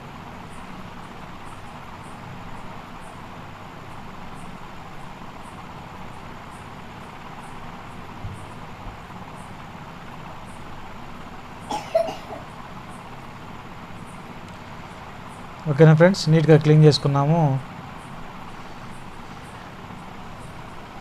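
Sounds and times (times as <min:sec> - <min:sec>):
electric equipment hum and hiss: 0:00.0 - 0:21.0.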